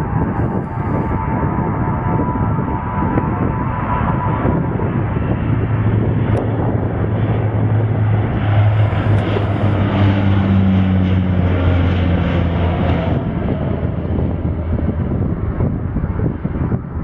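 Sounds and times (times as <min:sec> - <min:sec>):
turboprop airplane taking off: 0:00.0 - 0:17.0.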